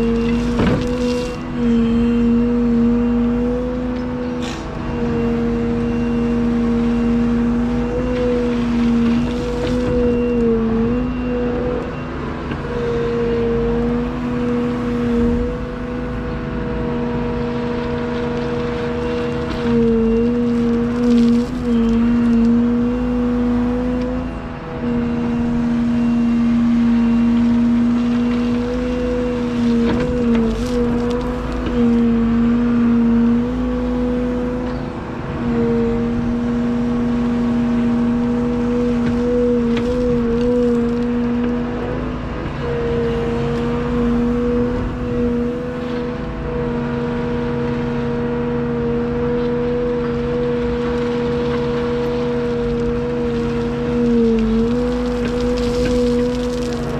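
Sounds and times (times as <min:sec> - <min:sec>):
excavator diesel engine: 0:00.0 - 0:56.9.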